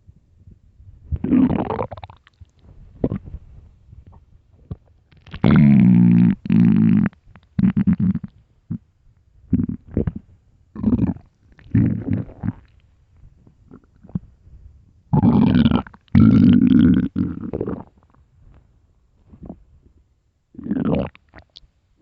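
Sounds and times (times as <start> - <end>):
stomach growling and gurgling: 1.0 - 8.9, 9.5 - 14.5, 15.1 - 18.3, 19.2 - 21.7.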